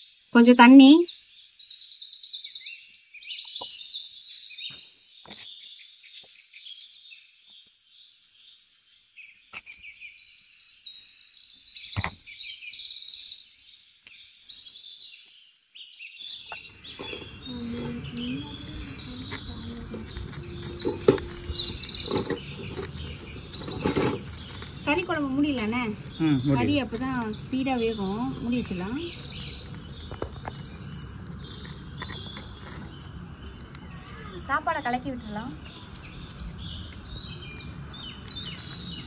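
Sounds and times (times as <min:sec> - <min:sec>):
songbirds chirping and singing: 0:00.0 - 0:39.0.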